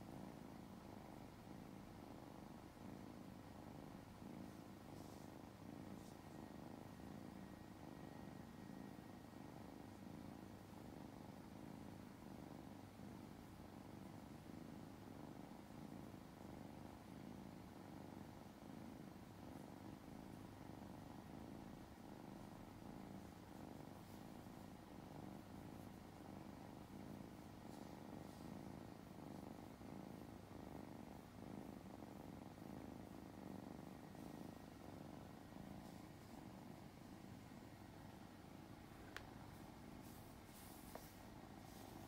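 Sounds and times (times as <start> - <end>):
kitten purring: 0.0 - 42.0.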